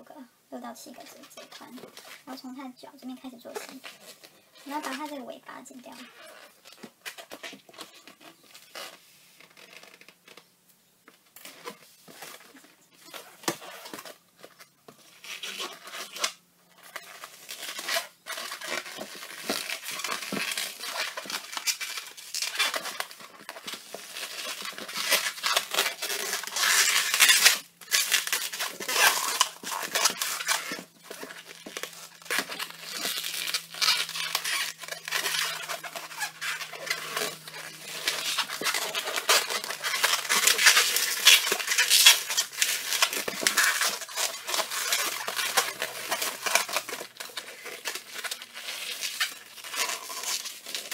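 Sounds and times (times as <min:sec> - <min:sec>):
balloon latex squeaking: 0:03.4 - 0:10.5, 0:11.4 - 0:50.9.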